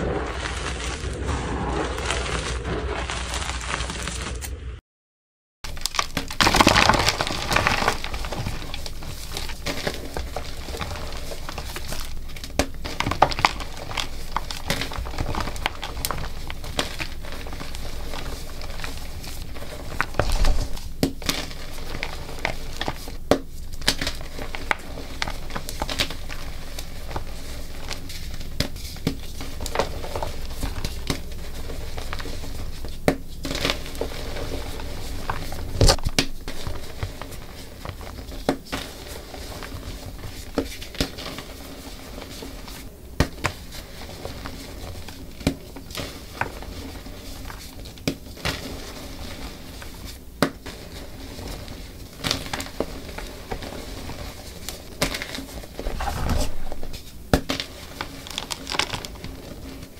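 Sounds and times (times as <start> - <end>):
chalk blocks crunching: 0.0 - 4.6, 5.7 - 59.9.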